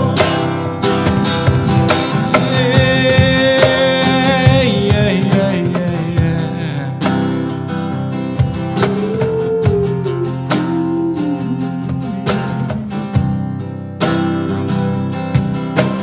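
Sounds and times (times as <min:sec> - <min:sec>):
acoustic guitar strumming: 0:00.0 - 0:16.0
live band playing: 0:00.0 - 0:16.0.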